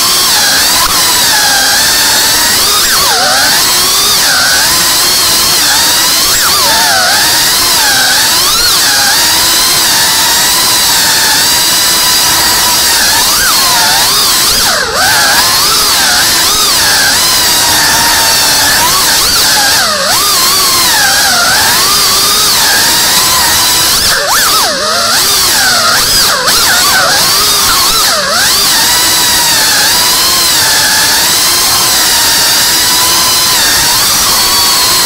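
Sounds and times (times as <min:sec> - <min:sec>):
drone motors whining: 0:00.0 - 0:35.0.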